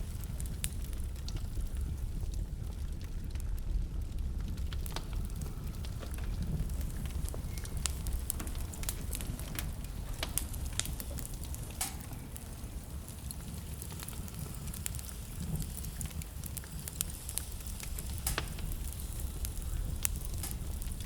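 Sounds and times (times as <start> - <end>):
blizzard wind rumble: 0.0 - 21.0
wood fire crackling: 0.0 - 21.0.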